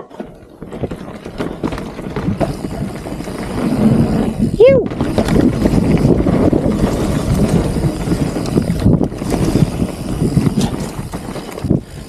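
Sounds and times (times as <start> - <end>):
bike tyres rattling over dirt: 0.0 - 12.0
wind buffeting the microphone: 0.6 - 12.0.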